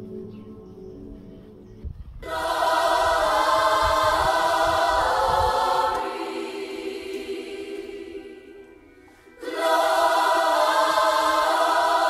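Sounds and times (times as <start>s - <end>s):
background music: 0.0s - 12.0s
choir-like sung voices: 2.2s - 12.0s.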